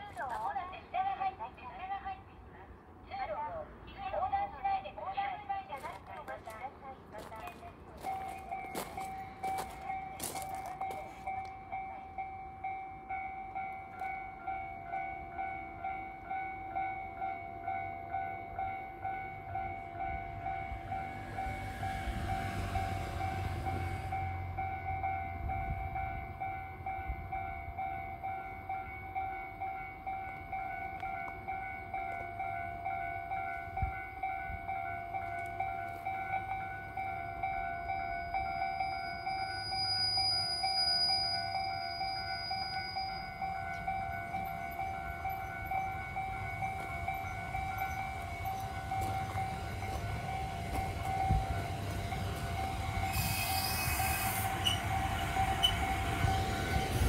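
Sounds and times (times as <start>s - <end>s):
diesel railcar engine rumble: 0.0s - 57.0s
level crossing alarm dinging: 7.5s - 57.0s.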